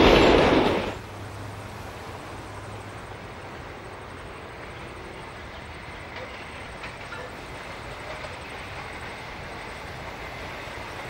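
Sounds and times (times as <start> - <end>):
faint outdoor background hiss: 0.0 - 11.0
train wagons rolling on rails: 0.0 - 11.0.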